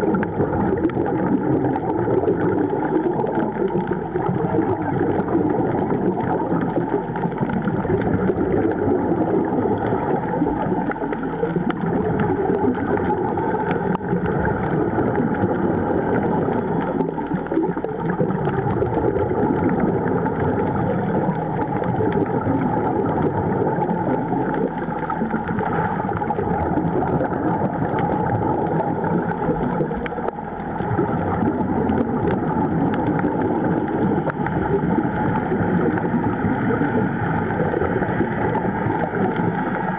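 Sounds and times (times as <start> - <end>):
underwater air bubbles rushing: 0.0 - 39.9.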